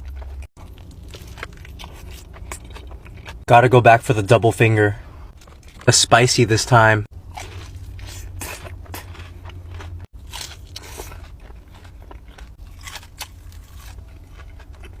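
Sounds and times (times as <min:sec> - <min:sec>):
crunching and chewing fried food: 0:00.0 - 0:03.5, 0:05.3 - 0:06.1, 0:07.1 - 0:15.0.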